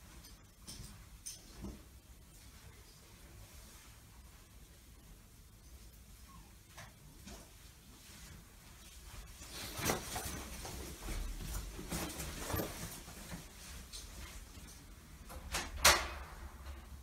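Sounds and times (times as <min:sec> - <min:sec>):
soft footsteps: 0:00.0 - 0:15.1.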